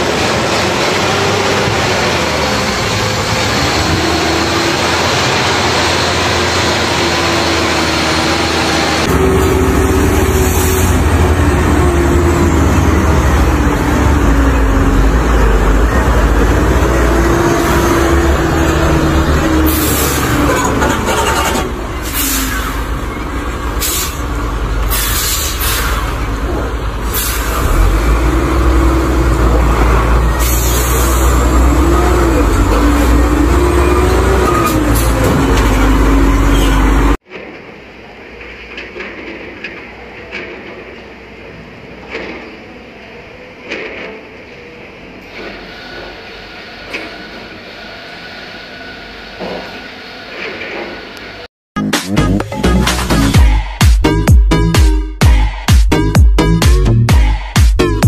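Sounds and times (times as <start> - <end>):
large vehicle engine rumbling: 0.0 - 58.0.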